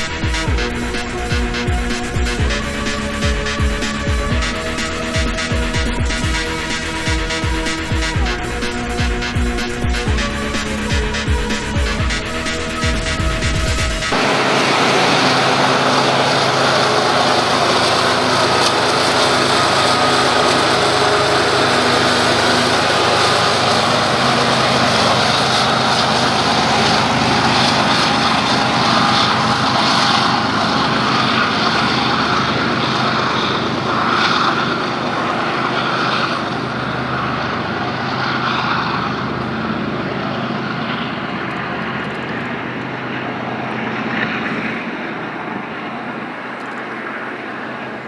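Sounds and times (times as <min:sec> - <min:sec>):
drone propellers buzzing: 0:00.0 - 0:48.0.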